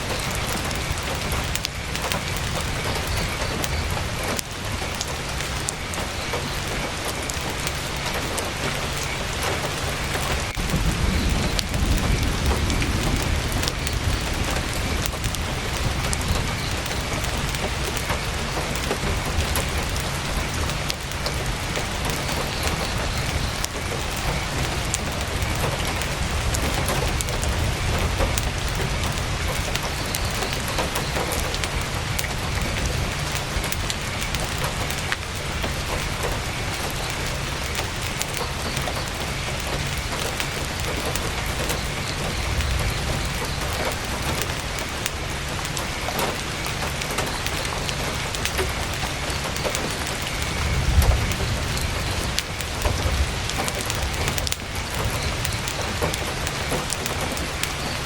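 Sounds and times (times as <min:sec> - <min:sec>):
heavy rain on a tent: 0:00.0 - 0:58.0
sharp ticks of raindrops: 0:00.0 - 0:58.0.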